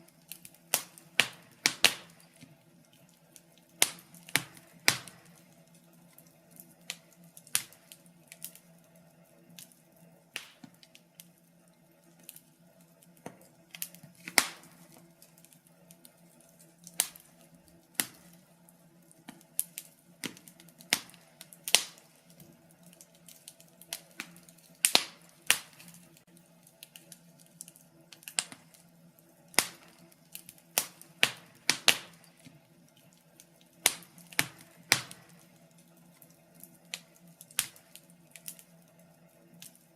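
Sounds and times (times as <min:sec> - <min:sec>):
logs crackling: 0:00.0 - 0:39.9.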